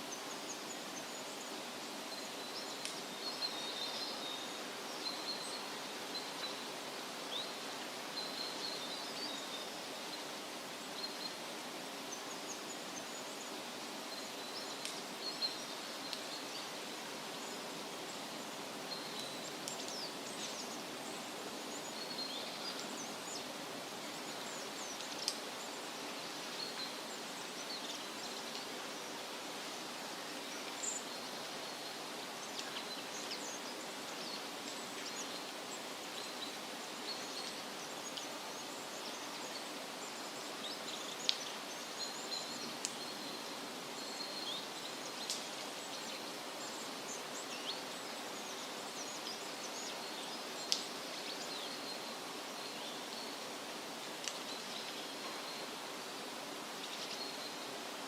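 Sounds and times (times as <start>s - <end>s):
small birds chirping: 0.0s - 58.0s
wind in leaves: 0.0s - 58.0s.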